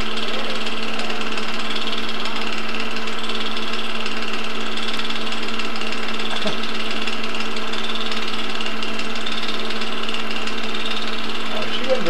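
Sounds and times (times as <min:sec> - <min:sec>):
film mechanism clatter: 0:00.0 - 0:12.0
projector motor hum: 0:00.0 - 0:12.0.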